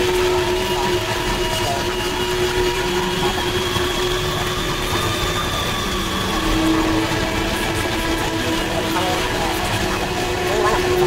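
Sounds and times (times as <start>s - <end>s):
dense droning noise: 0.0s - 11.0s
sustained feedback tones: 0.0s - 11.0s.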